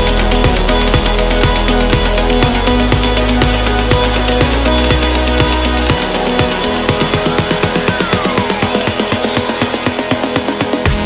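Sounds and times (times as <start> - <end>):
falling synth glide: 0.0 - 10.9
electronic dance music: 0.0 - 11.0.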